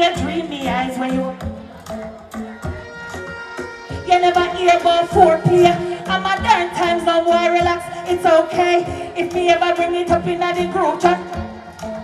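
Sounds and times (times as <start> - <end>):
woman singing into microphone: 0.0 - 1.8, 3.9 - 12.0
backing track with drum beat: 0.0 - 12.0.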